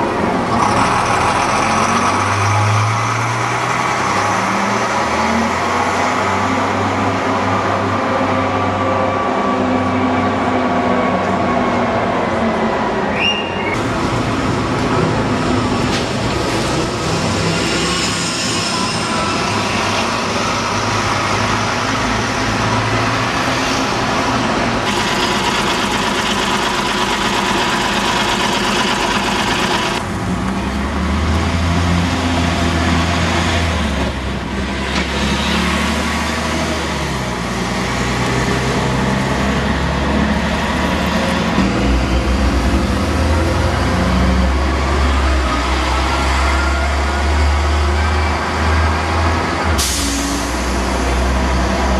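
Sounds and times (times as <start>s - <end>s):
bus engine humming: 0.0s - 51.9s
city street traffic: 0.0s - 51.9s.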